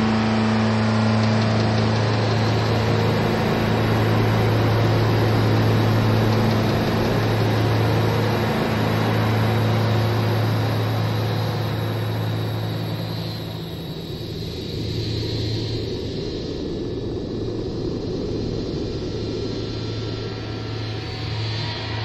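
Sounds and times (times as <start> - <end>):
dark ambient drone: 0.0 - 22.0.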